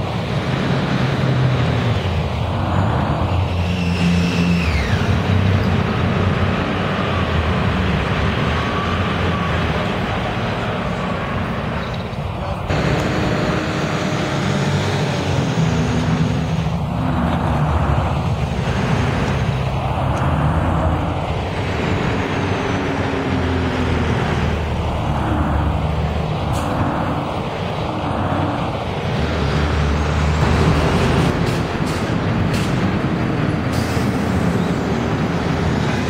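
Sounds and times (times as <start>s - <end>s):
diesel bus engine drone: 0.0s - 36.0s
street traffic: 0.0s - 36.0s
vehicles whooshing past: 0.0s - 36.0s.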